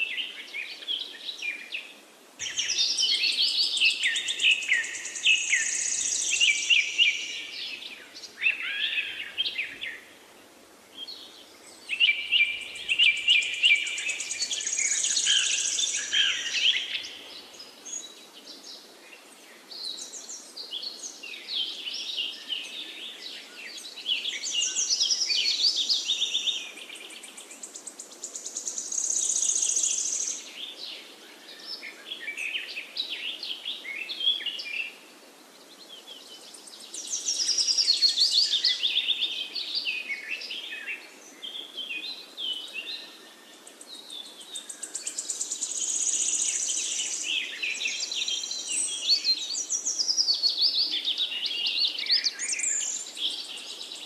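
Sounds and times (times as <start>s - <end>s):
faint background hiss: 0.0s - 54.0s
songbirds singing: 0.0s - 54.0s.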